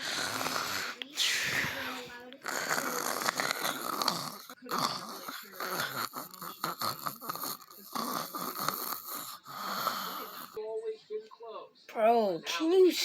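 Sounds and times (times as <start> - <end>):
person snoring: 0.0 - 10.6.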